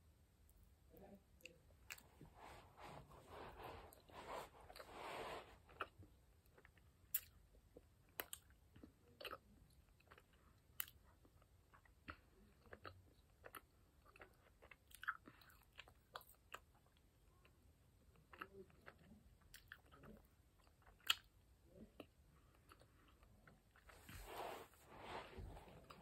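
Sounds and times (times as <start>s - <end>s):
faint chewing: 0.6s - 26.0s.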